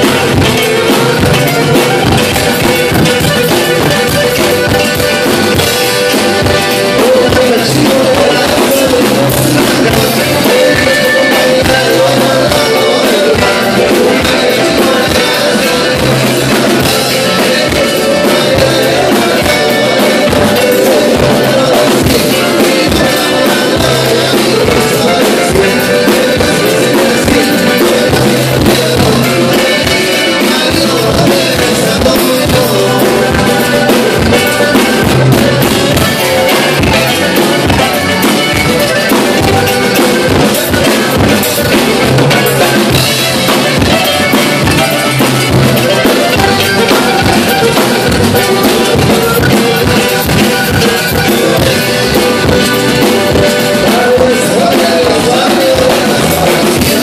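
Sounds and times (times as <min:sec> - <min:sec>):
accordion: 0:00.0 - 0:57.0
live band playing: 0:00.0 - 0:57.0.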